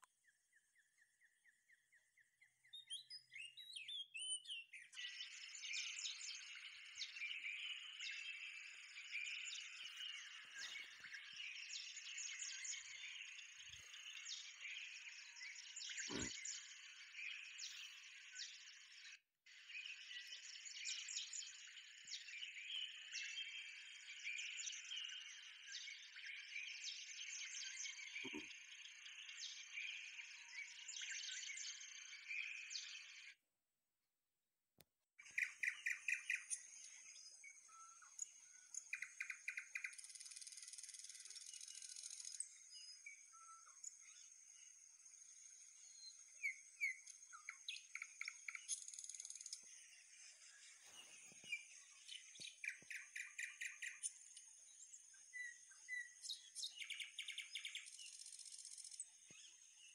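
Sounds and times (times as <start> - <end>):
birds chirping: 0.1 - 33.4, 35.2 - 59.9.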